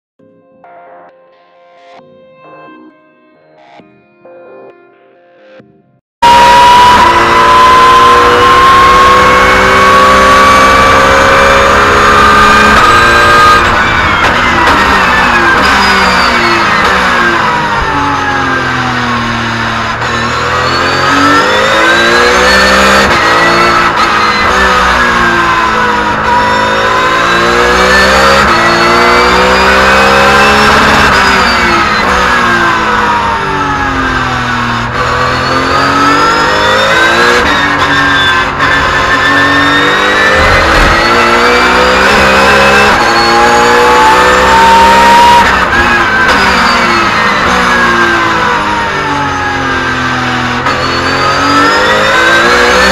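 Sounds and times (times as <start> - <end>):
race car engine revving: 6.2 - 52.9.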